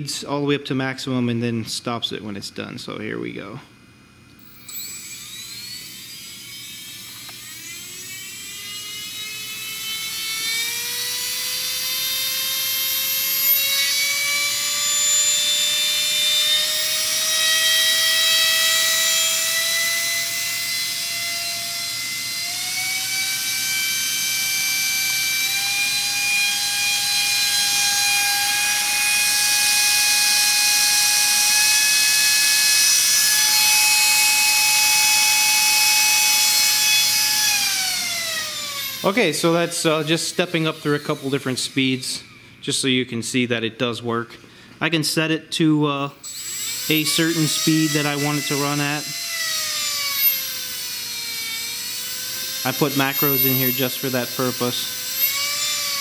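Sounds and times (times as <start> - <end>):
spindle motor whine rising: 4.4 - 42.6, 46.0 - 56.0.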